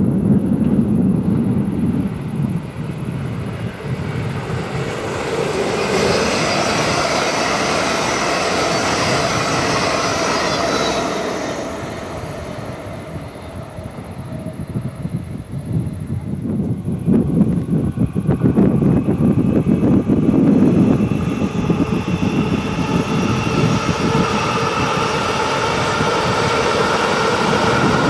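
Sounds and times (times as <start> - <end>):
train wheels rolling on rails: 0.2 - 28.0.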